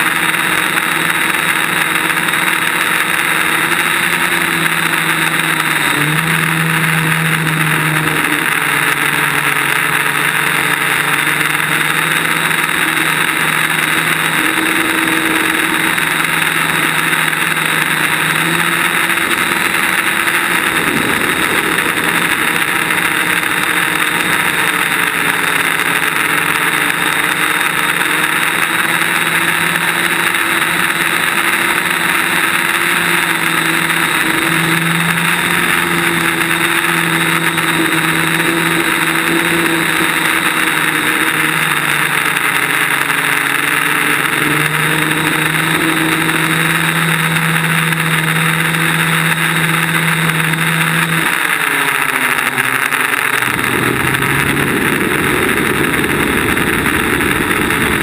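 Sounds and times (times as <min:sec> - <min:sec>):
drone motors humming: 0:00.0 - 0:58.0.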